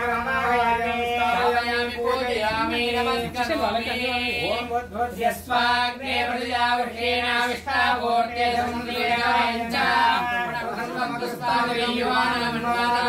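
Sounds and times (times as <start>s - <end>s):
mantras chanted melodically: 0.0s - 13.0s.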